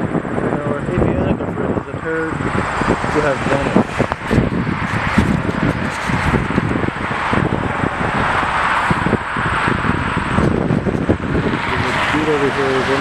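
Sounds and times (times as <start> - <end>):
wind buffeting microphone: 0.0 - 13.0
jet noise rushing: 1.6 - 13.0.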